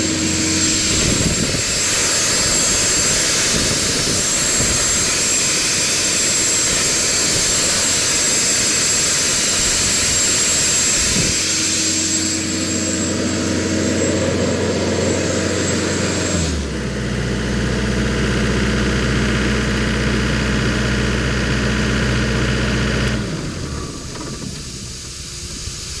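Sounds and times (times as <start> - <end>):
air compressor rush and whine: 0.0 - 26.0
compressor engine idling: 0.0 - 26.0.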